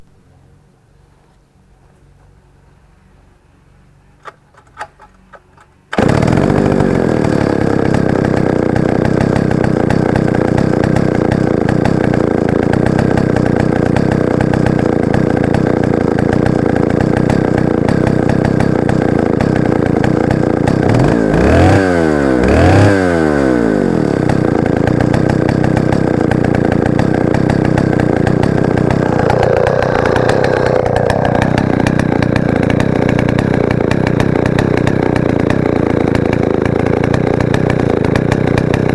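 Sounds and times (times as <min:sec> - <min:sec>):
chainsaw engine running: 0:04.2 - 0:38.9
chainsaw revving: 0:05.9 - 0:38.9.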